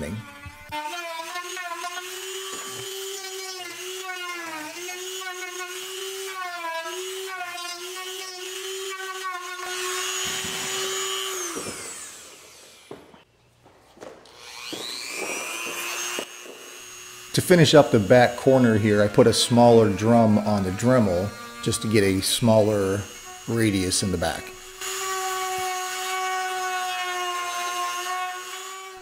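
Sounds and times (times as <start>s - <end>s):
rotary tool grinding: 0.0s - 12.9s, 14.0s - 29.0s.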